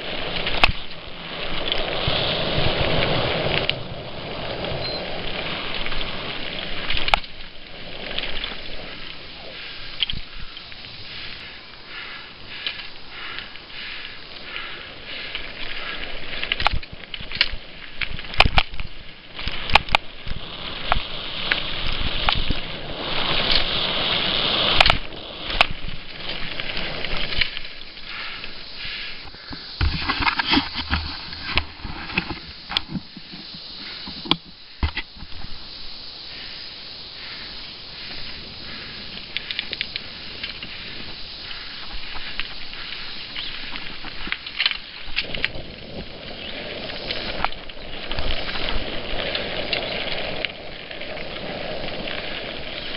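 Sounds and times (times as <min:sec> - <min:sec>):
bike rattling over bumps: 0:00.0 - 0:52.9
bike tyres rolling over dirt: 0:00.0 - 0:52.9.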